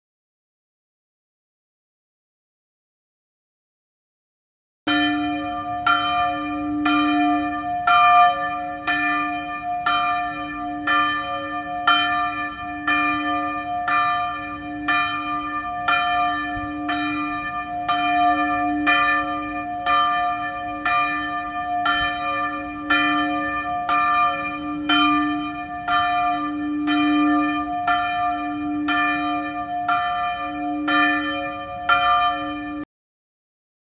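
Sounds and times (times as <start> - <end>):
church bells tolling: 4.9 - 32.9.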